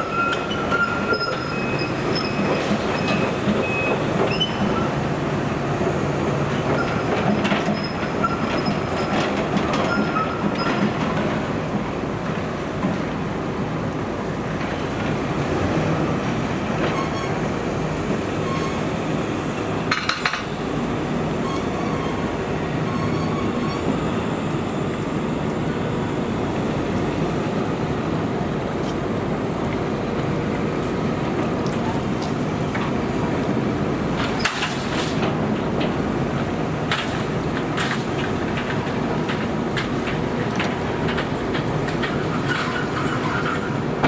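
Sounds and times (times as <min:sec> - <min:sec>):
train wheels and motors rumbling: 0:00.0 - 0:44.0.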